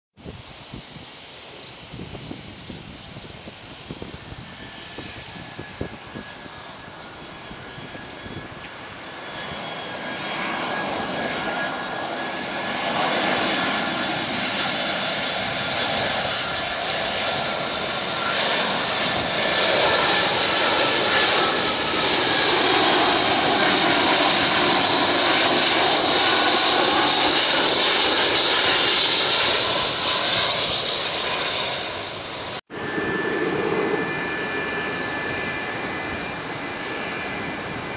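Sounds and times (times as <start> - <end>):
jet engines roaring past: 0.2 - 37.9.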